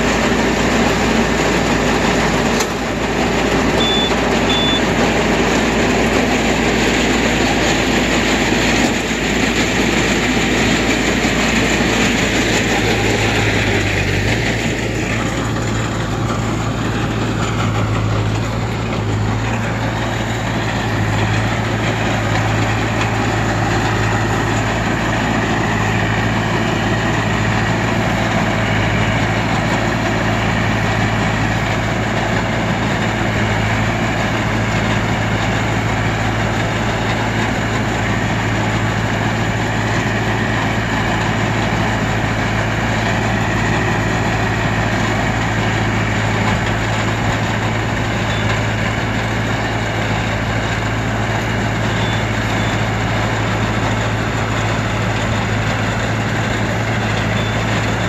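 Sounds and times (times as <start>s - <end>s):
tractor diesel engine droning: 0.0s - 58.0s.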